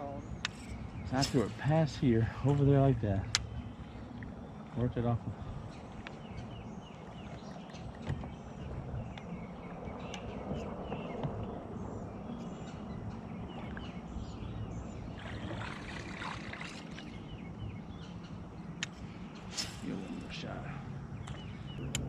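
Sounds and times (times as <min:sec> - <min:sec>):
wind and water rumble: 0:00.0 - 0:22.0.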